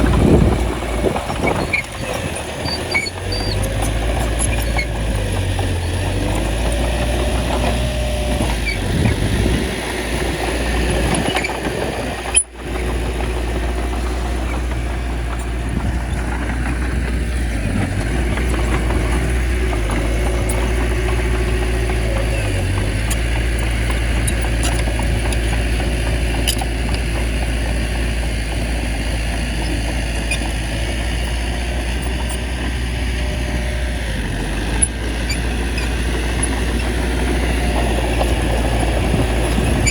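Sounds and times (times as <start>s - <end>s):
bulldozer engine droning: 0.0s - 39.9s.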